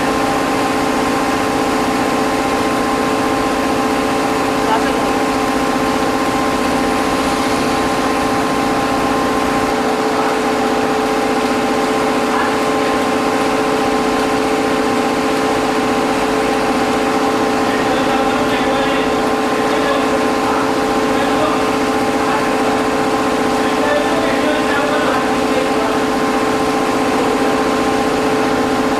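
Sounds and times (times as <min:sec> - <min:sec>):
machine hum with fixed tones: 0:00.0 - 0:28.9.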